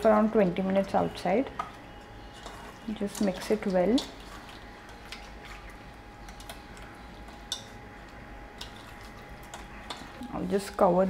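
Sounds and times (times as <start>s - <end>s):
hand mixing fish in bowl: 2.0s - 11.0s.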